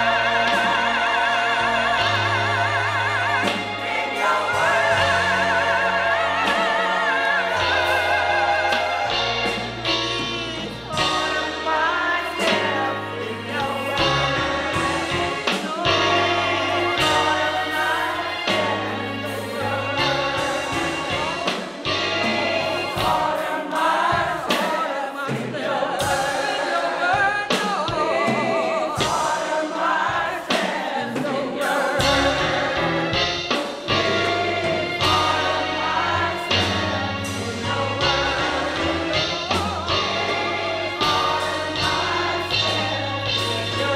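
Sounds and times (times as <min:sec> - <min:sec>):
gospel choir singing: 0:00.0 - 0:43.9.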